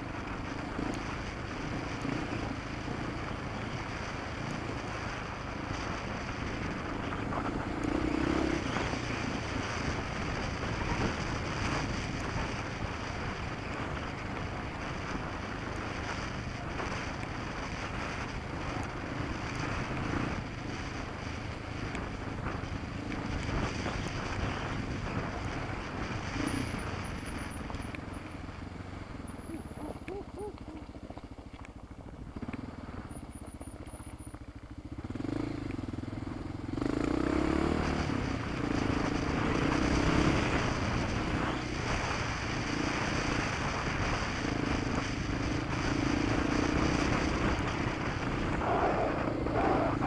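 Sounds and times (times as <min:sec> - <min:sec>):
wind rush on microphone: 0:00.0 - 0:28.2, 0:36.7 - 0:50.0
vehicle rumbling on gravel: 0:00.0 - 0:50.0.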